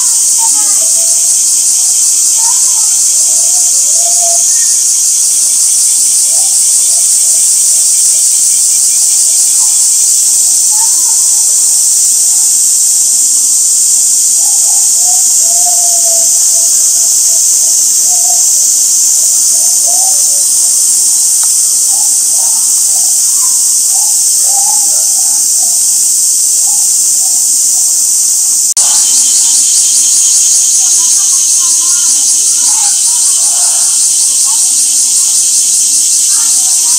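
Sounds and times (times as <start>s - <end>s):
cicadas buzzing: 0.0s - 36.9s.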